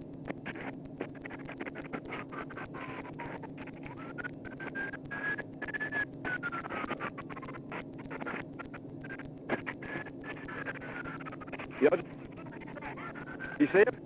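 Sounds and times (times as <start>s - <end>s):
faint clicks and crackles: 0.0s - 14.0s
steady low hum: 0.0s - 14.0s.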